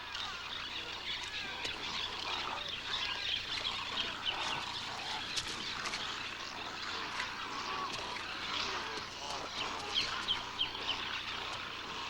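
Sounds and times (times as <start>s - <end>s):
chorus of birds calling: 0.0s - 12.0s.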